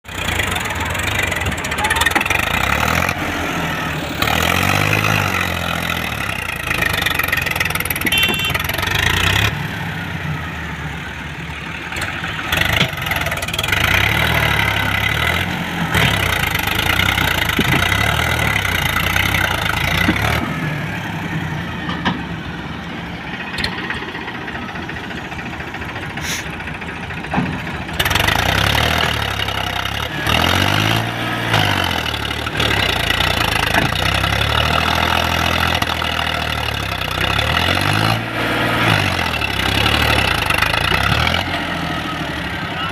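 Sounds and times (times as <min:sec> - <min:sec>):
heavy diesel engines working: 0:00.0 - 0:42.9.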